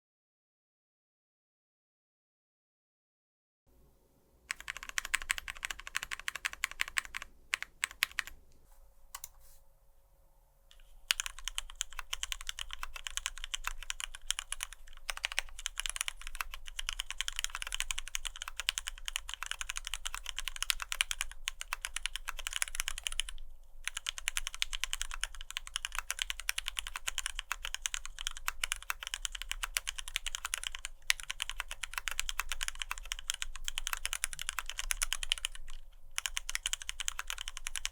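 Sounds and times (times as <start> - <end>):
fast mechanical keyboard typing: 4.5 - 8.4, 11.0 - 37.9.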